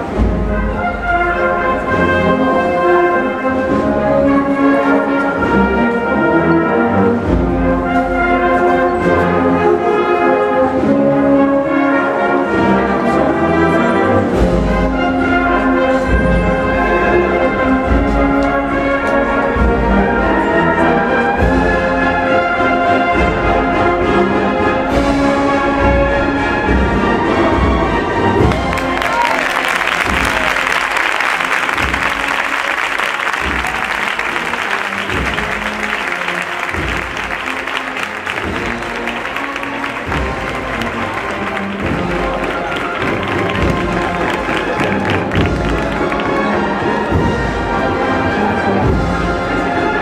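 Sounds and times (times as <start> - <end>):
brass band playing march: 0.0 - 50.0.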